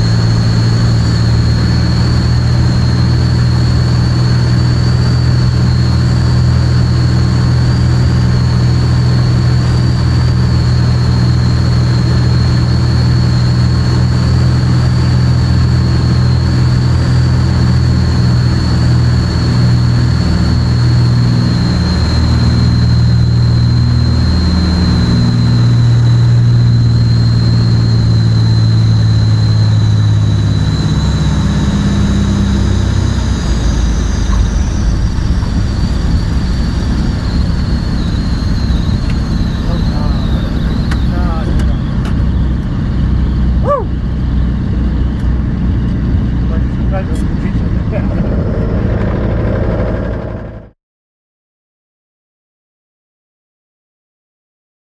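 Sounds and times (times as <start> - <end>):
propeller engine drone: 0.0 - 50.8
thin high whine: 0.0 - 50.8.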